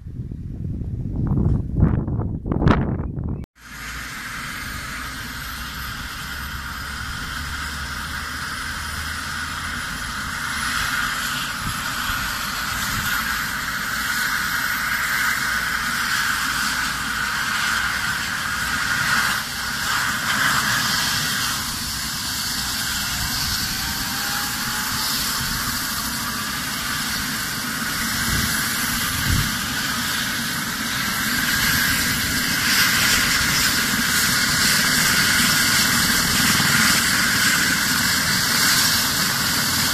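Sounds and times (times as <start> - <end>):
helicopter turbine engines whining: 1.0 - 39.9.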